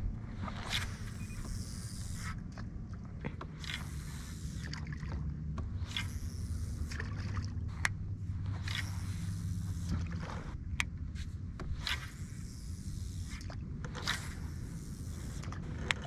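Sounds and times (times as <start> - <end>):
steady low rumble: 0.0 - 15.9
water swishing along hull: 0.0 - 16.0.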